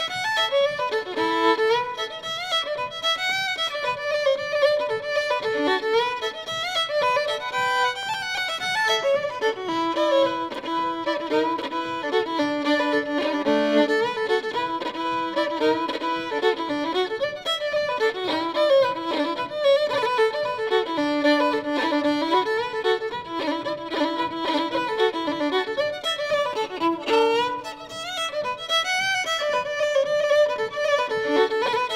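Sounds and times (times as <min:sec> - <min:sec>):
instrumental music: 0:00.0 - 0:31.9.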